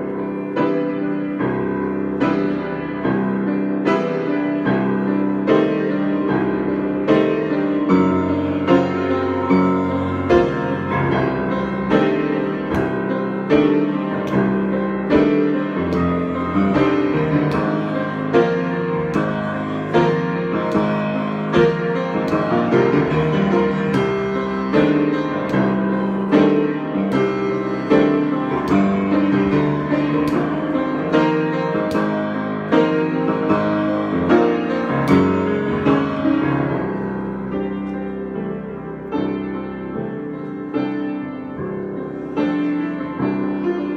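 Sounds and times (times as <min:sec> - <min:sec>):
solo piano: 0:00.0 - 0:43.9.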